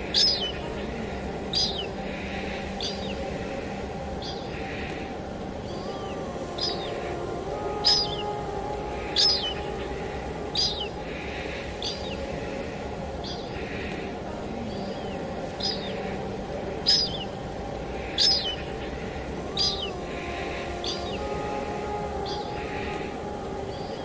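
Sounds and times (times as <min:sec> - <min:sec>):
faint sustained background tones: 0:00.0 - 0:24.0
rain falling: 0:00.0 - 0:24.0.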